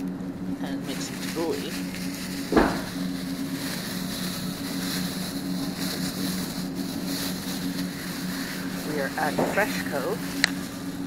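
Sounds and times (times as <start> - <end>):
supermarket background hum: 0.0 - 11.0.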